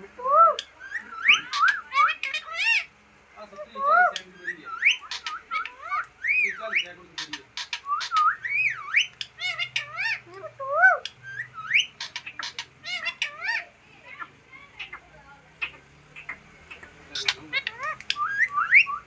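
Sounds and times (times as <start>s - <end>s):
parrot whistling and chattering: 0.3s - 2.9s, 3.8s - 19.0s.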